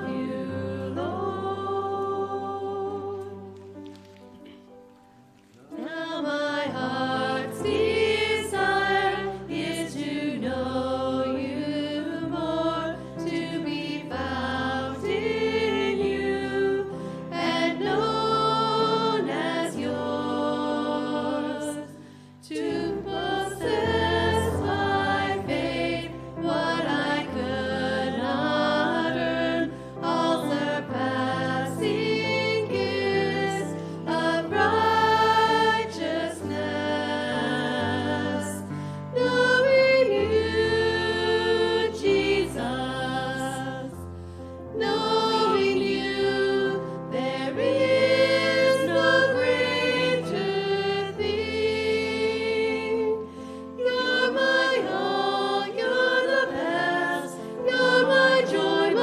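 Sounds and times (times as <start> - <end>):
women singing a hymn: 0.0 - 4.0, 5.6 - 59.0.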